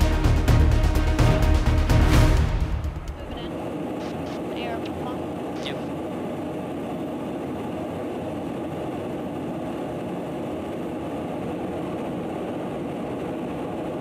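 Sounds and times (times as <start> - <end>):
aircraft engines droning: 0.0 - 14.0.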